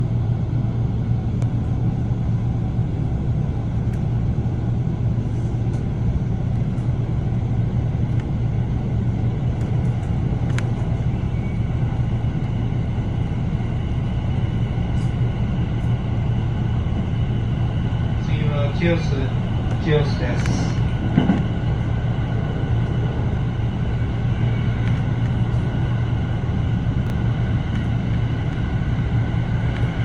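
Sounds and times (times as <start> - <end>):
electric locomotive rumbling: 0.0 - 30.0.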